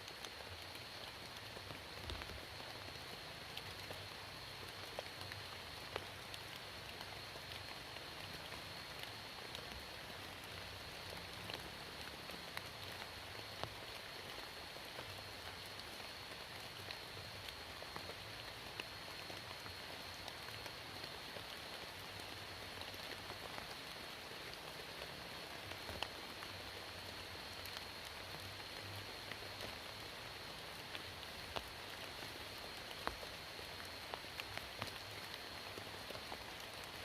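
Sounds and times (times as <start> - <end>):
raindrops tapping close by: 0.0 - 37.0
steady rain falling: 0.0 - 37.0.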